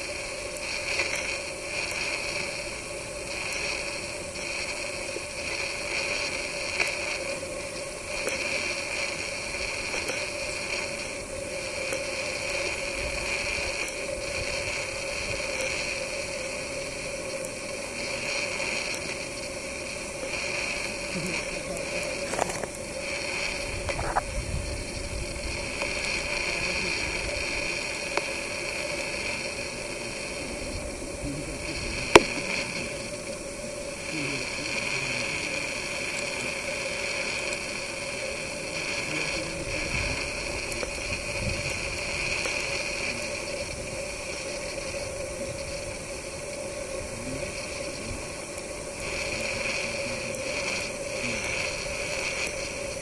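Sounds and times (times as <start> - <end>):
constant low hum: 0.0 - 53.0
high drone: 0.0 - 53.0
outdoor background hiss: 0.0 - 53.0.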